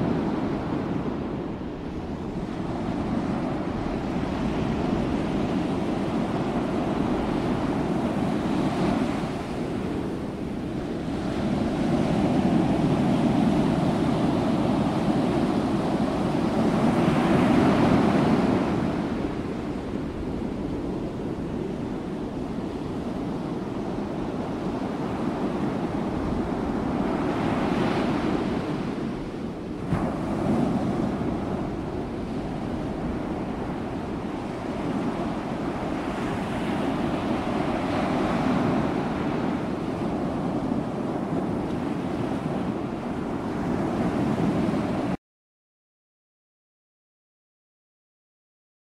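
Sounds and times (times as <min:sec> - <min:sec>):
strong wind buffeting microphone: 0:00.0 - 0:45.2.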